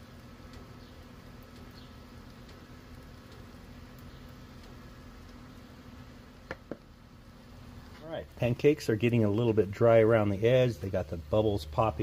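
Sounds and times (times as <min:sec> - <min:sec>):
batter sizzling on griddle: 0:00.0 - 0:12.0.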